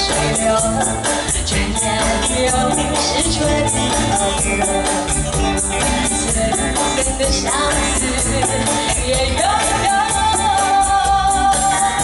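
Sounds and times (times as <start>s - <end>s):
live band playing pop: 0.0s - 12.0s
woman singing into microphone: 0.0s - 12.0s.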